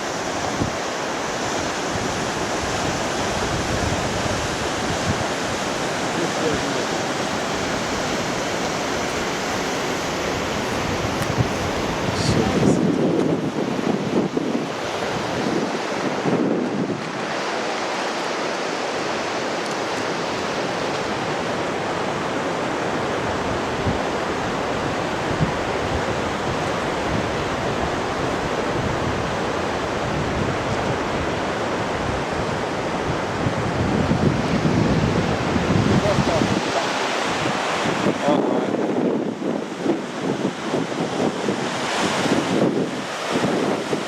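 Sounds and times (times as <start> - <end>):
waterfall rushing: 0.0 - 44.0
wind buffeting microphone: 0.0 - 44.0.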